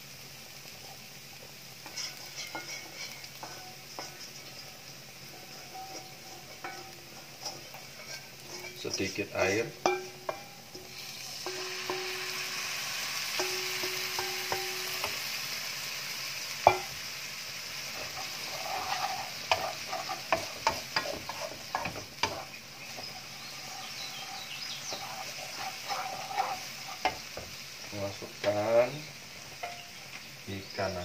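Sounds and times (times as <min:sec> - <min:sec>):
food sizzling in oil: 0:00.0 - 0:31.0
spatula scraping wok: 0:00.6 - 0:31.0
spatula tapping wok: 0:00.8 - 0:15.7, 0:16.4 - 0:17.1, 0:17.8 - 0:28.8, 0:29.4 - 0:30.4.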